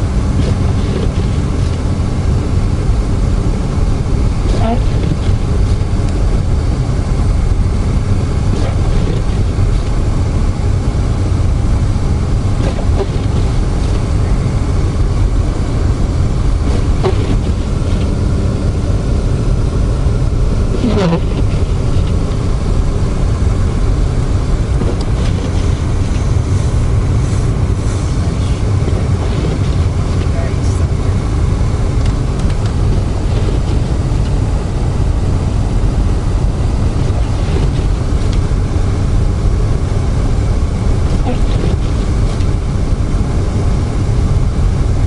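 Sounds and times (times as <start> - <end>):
car driving on snowy road: 0.0 - 45.0.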